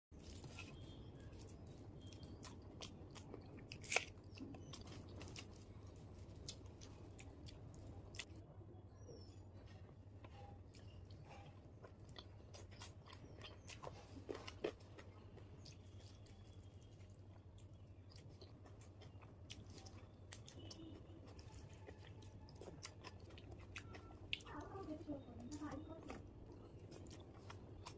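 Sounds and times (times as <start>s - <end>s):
person chewing food: 0.2s - 8.4s, 9.7s - 27.9s.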